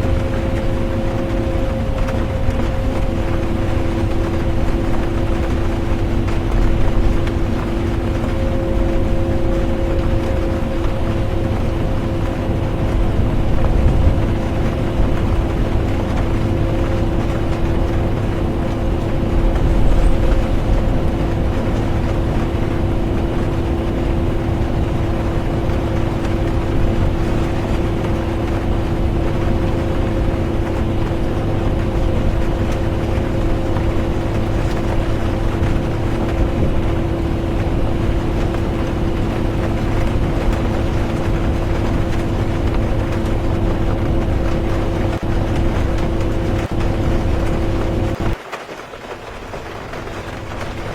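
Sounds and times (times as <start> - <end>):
bus engine and road rumble: 0.0 - 48.4
rain on bus: 0.0 - 50.9.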